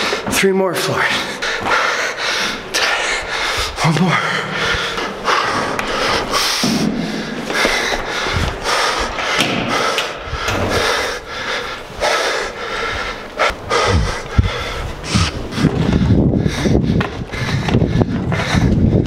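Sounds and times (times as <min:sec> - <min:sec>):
man panting heavily: 0:00.0 - 0:19.0.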